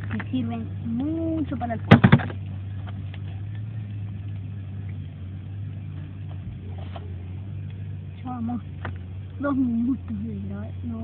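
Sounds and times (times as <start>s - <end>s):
campfire crackling: 0.0s - 11.0s
low steady hum: 0.0s - 11.0s.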